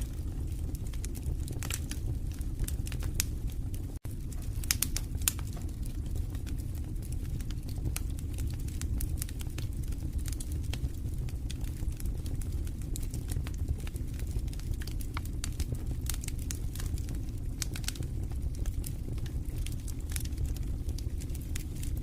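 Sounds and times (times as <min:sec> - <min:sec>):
fire rumbling in a fireplace: 0:00.0 - 0:22.0
logs crackling and popping: 0:00.0 - 0:22.0.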